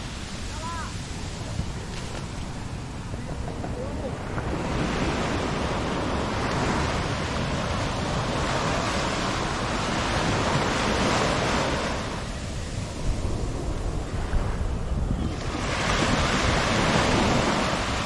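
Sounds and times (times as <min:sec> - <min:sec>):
surf washing on beach: 0:00.0 - 0:18.0
wind rumbling on microphone: 0:00.0 - 0:18.0.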